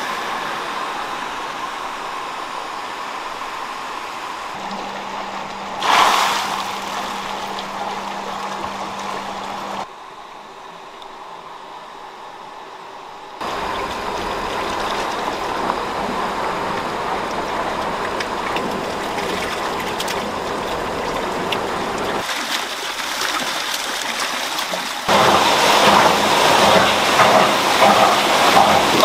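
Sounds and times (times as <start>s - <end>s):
water rushing and splashing: 0.0s - 10.0s, 12.8s - 29.0s.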